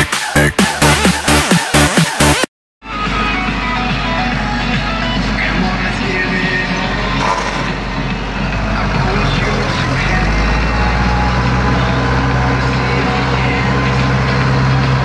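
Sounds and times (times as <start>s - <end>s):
tractor engine running: 3.0s - 15.0s.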